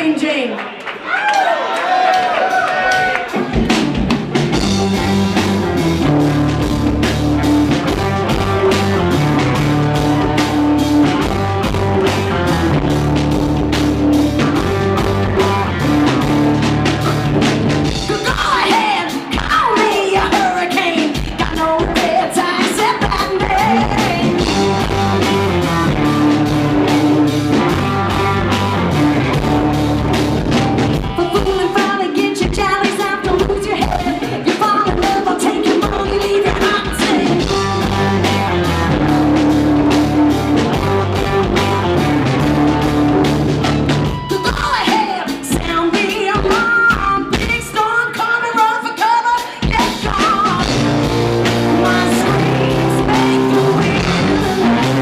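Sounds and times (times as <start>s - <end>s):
live rock band playing: 2.6s - 55.0s.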